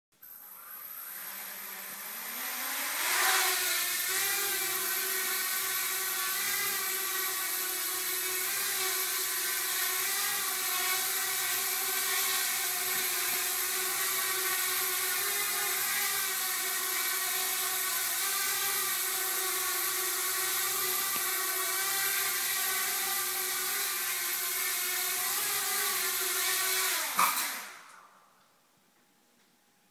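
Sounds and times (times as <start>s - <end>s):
quadcopter propellers whirring: 0.3s - 27.9s.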